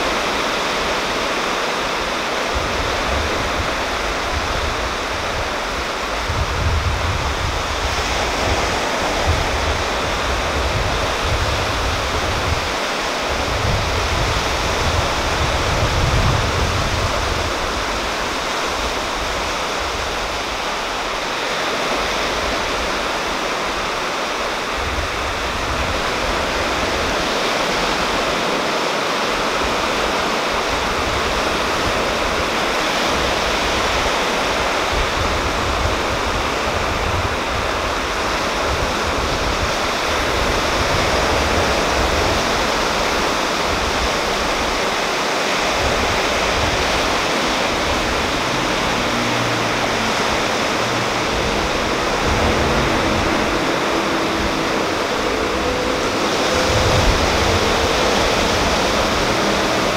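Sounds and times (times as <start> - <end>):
waves washing onto rocky shore: 0.0 - 59.9.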